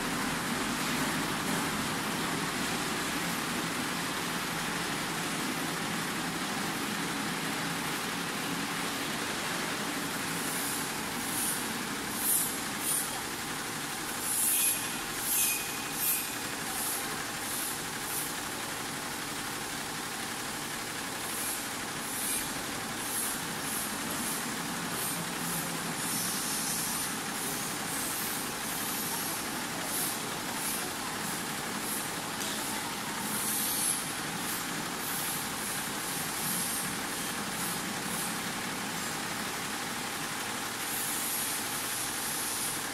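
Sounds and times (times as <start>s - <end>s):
embroidery machine running: 0.0s - 42.9s.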